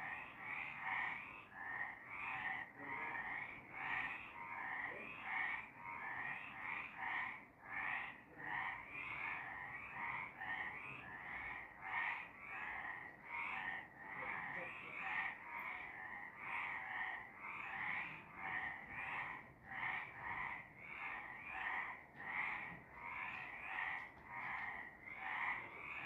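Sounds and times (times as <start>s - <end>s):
frogs croaking in chorus: 0.0s - 26.0s.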